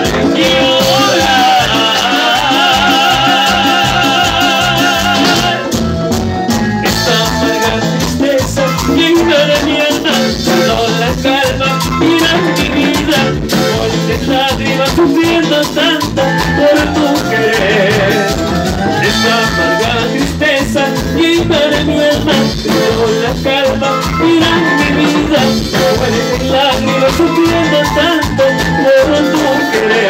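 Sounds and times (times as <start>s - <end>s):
person singing: 0.0s - 5.8s, 6.8s - 30.0s
latin dance band playing: 0.0s - 30.0s.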